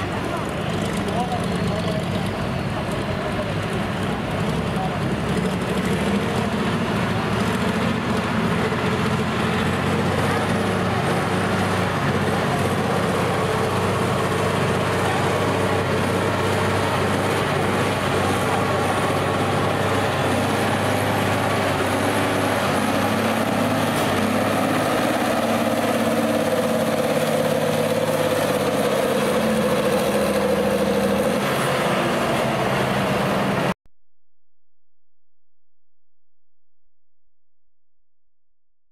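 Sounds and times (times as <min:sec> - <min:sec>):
tractor engine running under load: 0:00.0 - 0:33.8.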